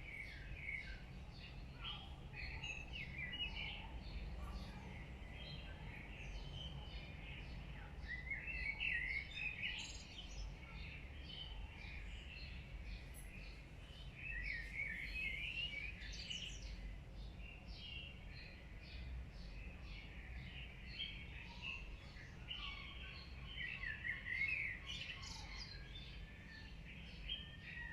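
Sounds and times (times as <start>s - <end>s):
small birds chirping and trilling: 0.0s - 27.9s.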